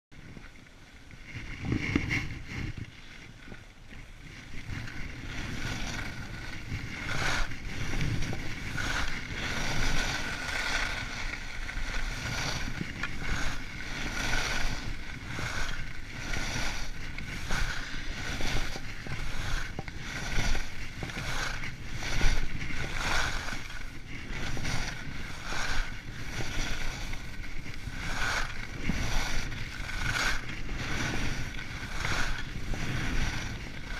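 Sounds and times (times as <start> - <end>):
skis scraping on snow: 0.2 - 33.9
wind on microphone: 0.2 - 33.9.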